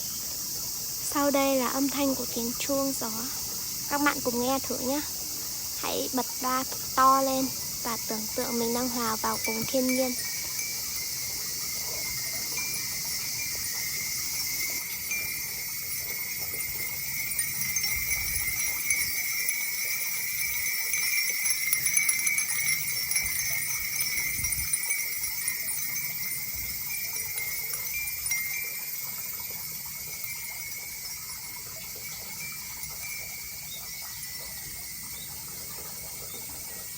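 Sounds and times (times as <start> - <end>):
wind chimes tinkling: 0.0 - 36.9.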